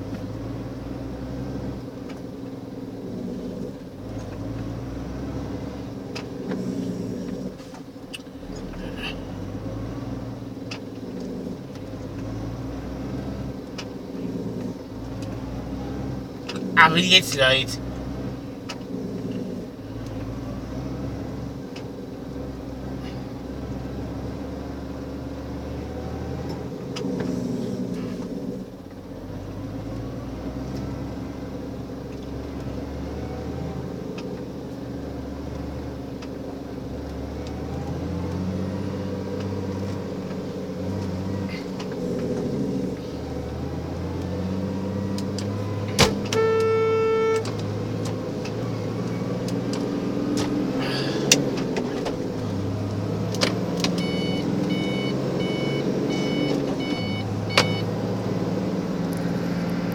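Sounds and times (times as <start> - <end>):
car engine and cabin noise: 0.0 - 59.9.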